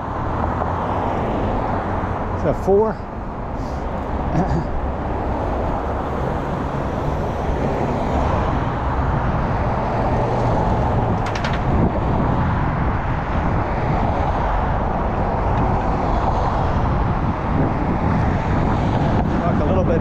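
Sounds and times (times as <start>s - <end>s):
cars driving past: 0.0s - 20.0s.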